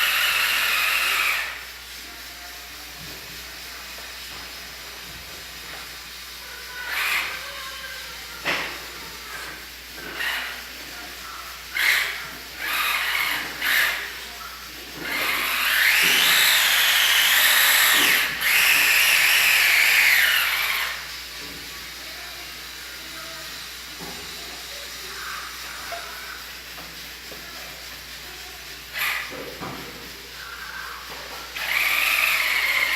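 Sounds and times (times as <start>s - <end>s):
small electric motor whining: 0.0s - 32.9s.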